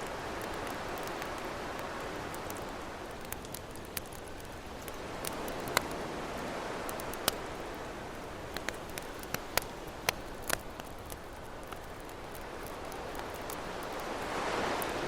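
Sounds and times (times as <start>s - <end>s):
campfire crackling and popping: 0.0s - 15.0s
ocean waves: 0.0s - 15.0s.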